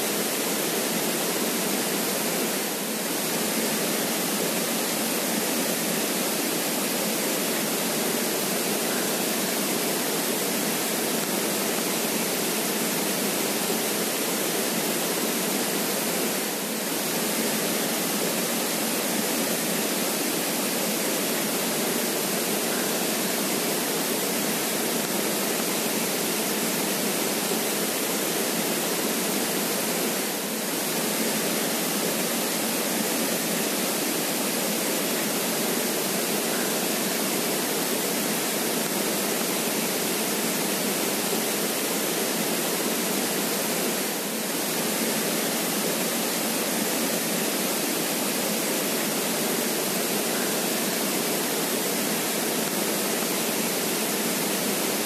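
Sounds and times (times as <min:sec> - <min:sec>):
creek water flowing: 0:00.0 - 0:55.0.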